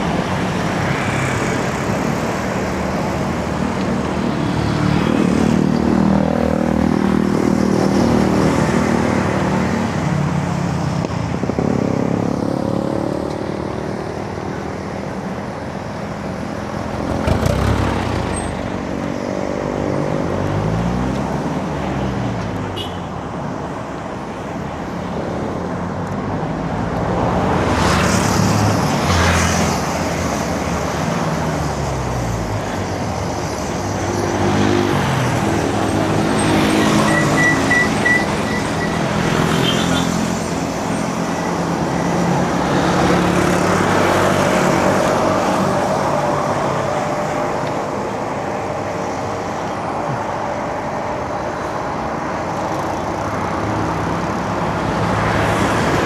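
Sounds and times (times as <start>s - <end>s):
motor vehicles passing: 0.0s - 56.0s
steady road noise: 0.0s - 56.0s.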